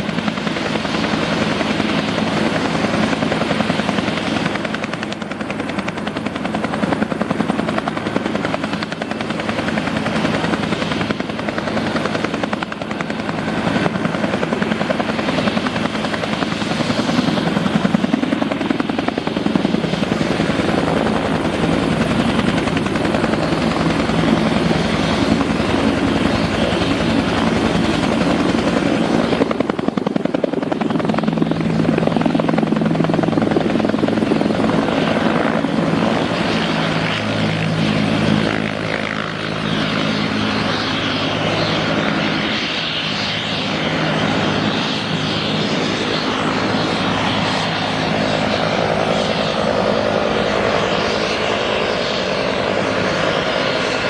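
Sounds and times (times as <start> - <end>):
helicopter rotor beating: 0.0 - 54.0
turbine engine whine: 0.0 - 54.0.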